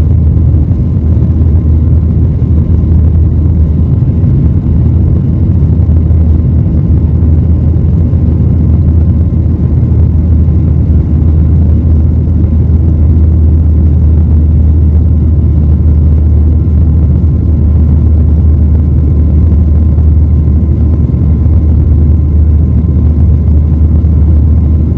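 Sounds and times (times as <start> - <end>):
faint thin whine: 0.0 - 24.9
jet engines rumbling: 0.0 - 24.9.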